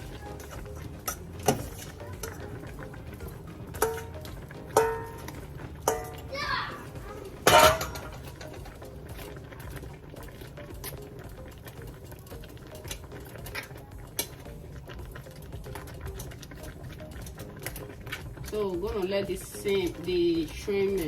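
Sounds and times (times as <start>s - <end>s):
soup bubbling: 0.0s - 21.0s.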